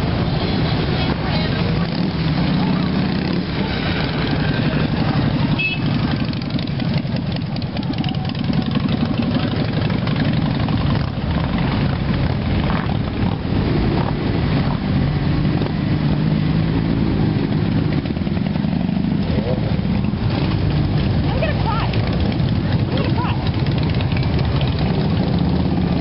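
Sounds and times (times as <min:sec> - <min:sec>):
motorcycle engines rumbling: 0:00.0 - 0:26.0.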